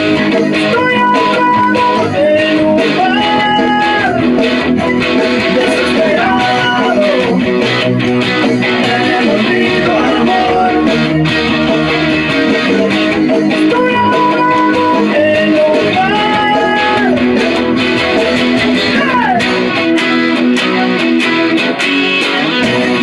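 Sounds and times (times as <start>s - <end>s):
sliding guitar lead melody: 0.0s - 23.0s
strummed guitar chords: 0.0s - 23.0s.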